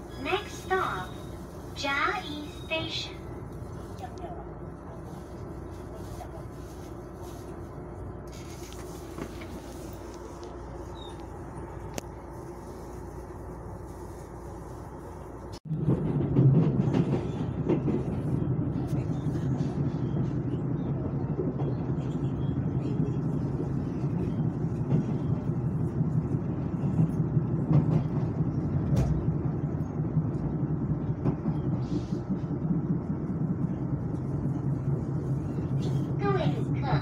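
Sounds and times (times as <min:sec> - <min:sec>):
train carriage rumbling on track: 0:00.0 - 0:37.0.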